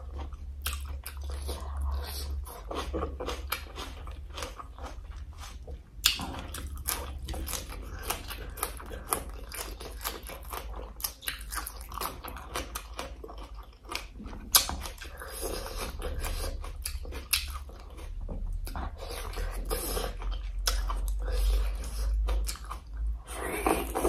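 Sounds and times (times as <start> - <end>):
wet chewing and crunching: 0.0 - 24.0.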